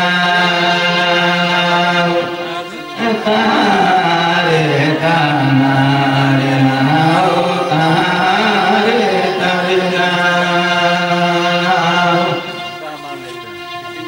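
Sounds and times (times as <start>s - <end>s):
man chanting into a microphone: 0.0s - 12.8s.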